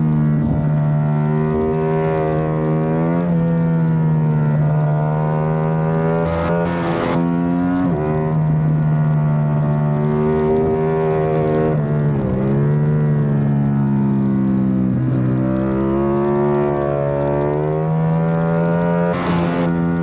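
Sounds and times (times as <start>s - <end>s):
motorcycle engine at racing speed: 0.0s - 20.0s.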